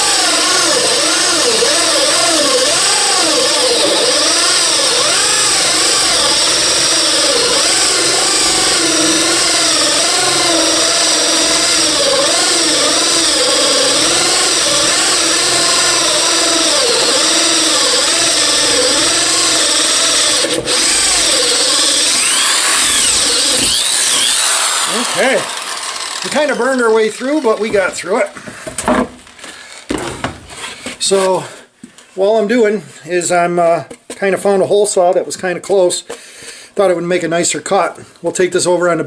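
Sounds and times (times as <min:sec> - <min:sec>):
drill hole saw through plywood: 0:00.0 - 0:31.3.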